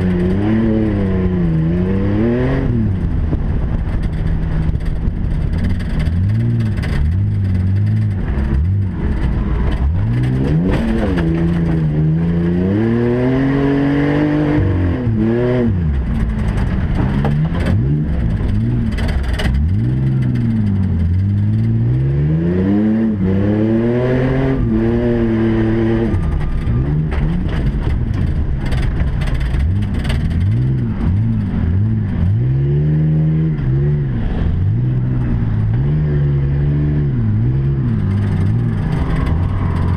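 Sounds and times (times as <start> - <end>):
race truck engines revving: 0.0 - 39.9.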